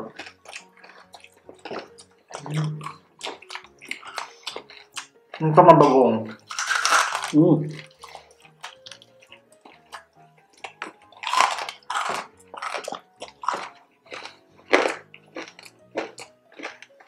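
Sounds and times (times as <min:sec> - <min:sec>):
chewing crispy pork skin: 0:00.0 - 0:17.0
quiet background music: 0:00.0 - 0:17.0.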